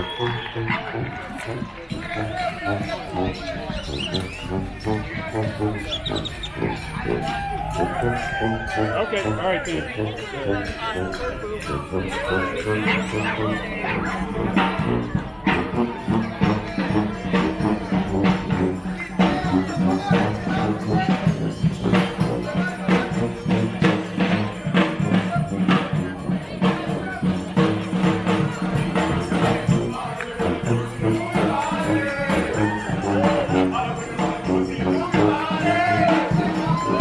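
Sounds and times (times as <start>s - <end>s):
brass band playing: 0.0s - 37.0s
steady drum beat: 0.0s - 37.0s.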